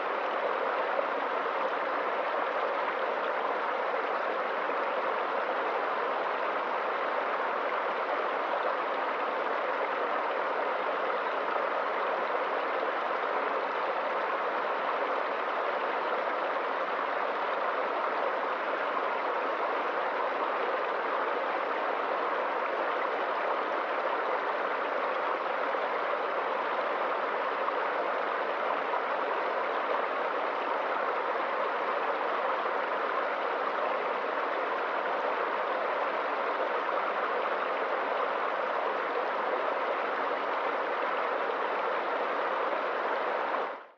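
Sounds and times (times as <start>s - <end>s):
stream splashing over rocks: 0.0s - 43.9s.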